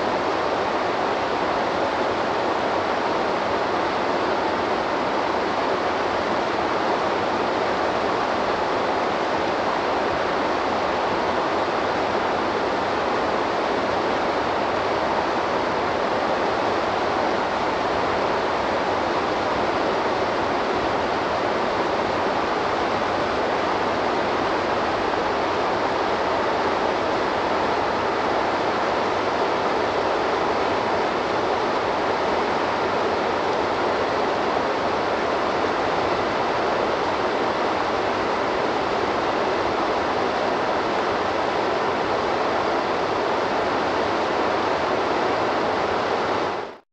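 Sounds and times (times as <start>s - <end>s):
waterfall rushing: 0.0s - 46.8s.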